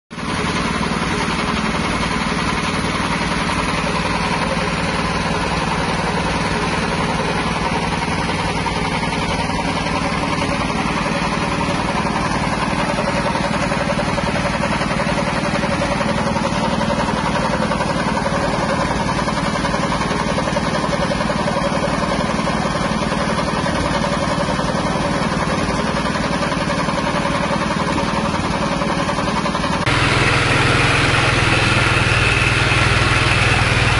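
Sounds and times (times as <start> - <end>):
petrol engine running: 0.1 - 33.9.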